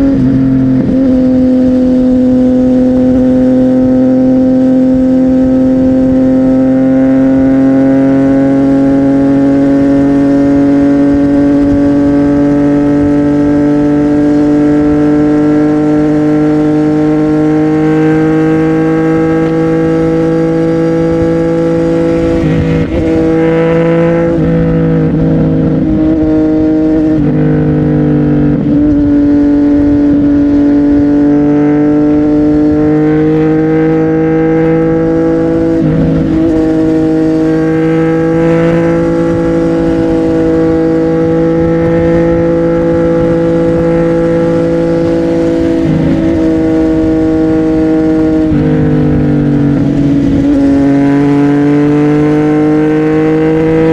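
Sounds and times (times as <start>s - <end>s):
motorcycle engine revving loud: 0.0s - 53.9s.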